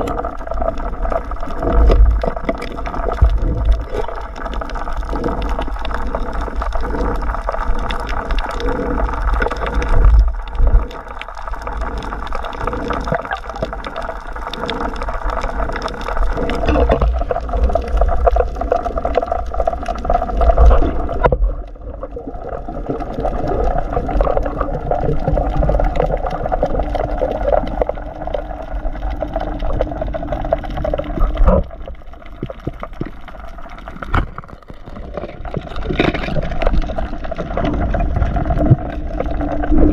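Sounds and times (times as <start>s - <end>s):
underwater bubbling and sloshing: 0.0s - 39.9s.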